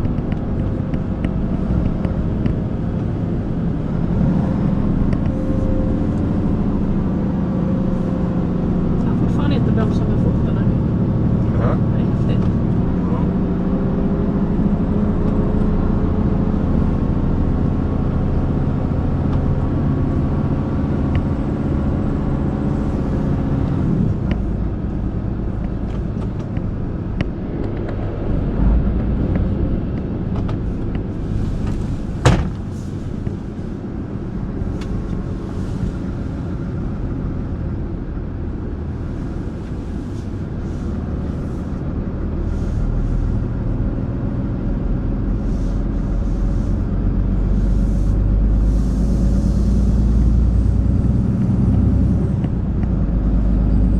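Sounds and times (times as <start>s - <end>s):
road rumble: 0.0s - 53.9s
truck engine drone: 0.0s - 53.9s.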